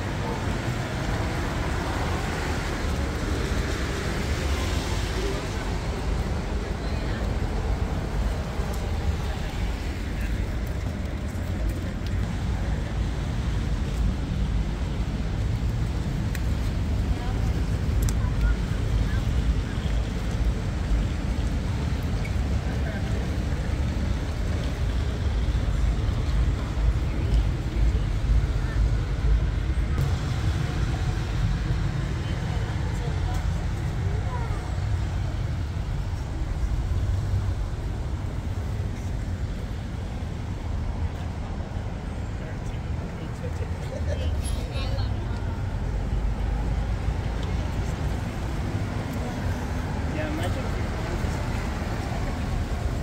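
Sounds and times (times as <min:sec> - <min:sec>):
city street ambience: 0:00.0 - 0:53.0.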